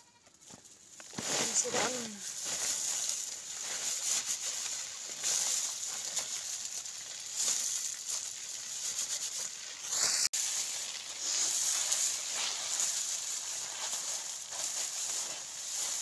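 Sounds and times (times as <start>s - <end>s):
dry stalks rustling and crackling: 0.0s - 16.0s.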